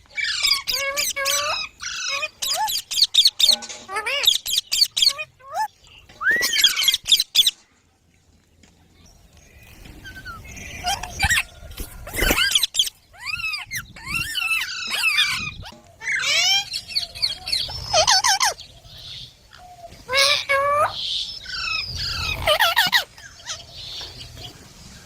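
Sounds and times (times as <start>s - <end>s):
baby parrots chirping: 0.1s - 7.6s, 10.0s - 24.5s.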